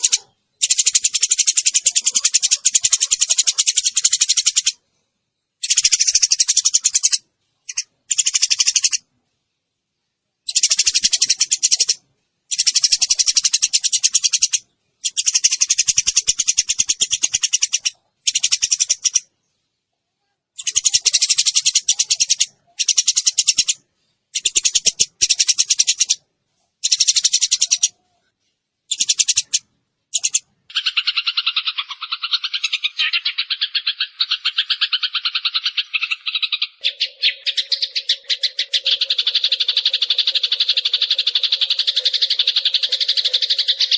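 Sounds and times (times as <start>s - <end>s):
sparrows chattering trills: 0.0s - 4.8s, 5.6s - 9.0s, 10.5s - 19.6s, 20.6s - 26.2s, 26.8s - 28.0s, 28.9s - 43.9s
lower pulsing bird chatter: 0.0s - 43.9s.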